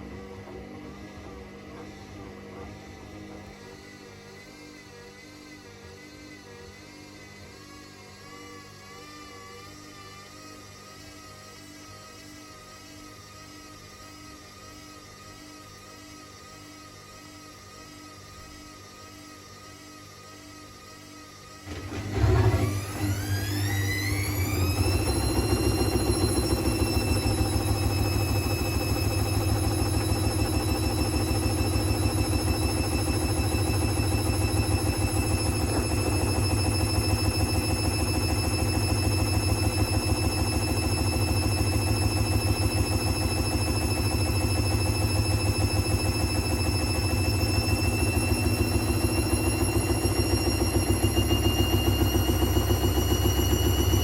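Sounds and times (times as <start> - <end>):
washing machine motor whine: 0.0 - 54.0.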